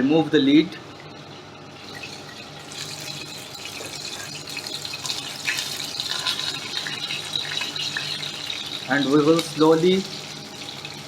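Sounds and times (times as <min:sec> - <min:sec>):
fish sizzling in hot oil: 0:01.7 - 0:11.0
oil crackling: 0:01.8 - 0:11.0.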